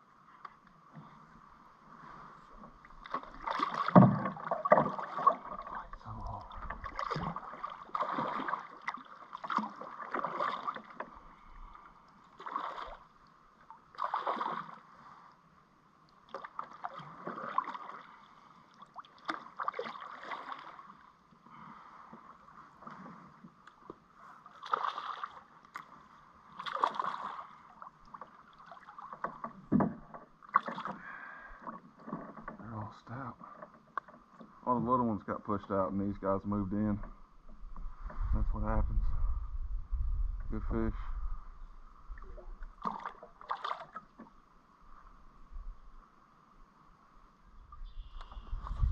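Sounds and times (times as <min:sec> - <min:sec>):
water splashing around kayak: 0:00.0 - 0:48.9.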